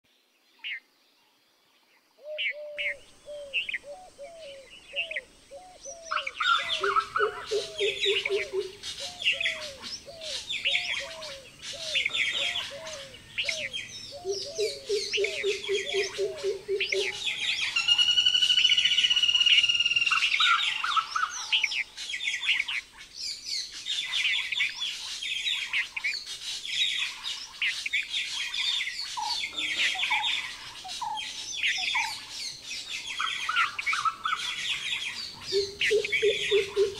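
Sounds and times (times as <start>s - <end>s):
birds calling: 2.2s - 36.9s.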